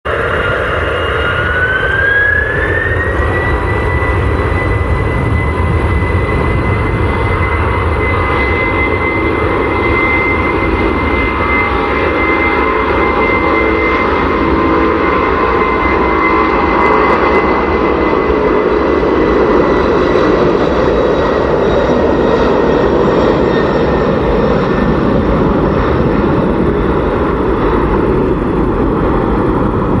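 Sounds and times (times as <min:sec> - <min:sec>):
loud jet engine noise: 0:00.0 - 0:30.0
jet engines spooling up: 0:00.1 - 0:30.0.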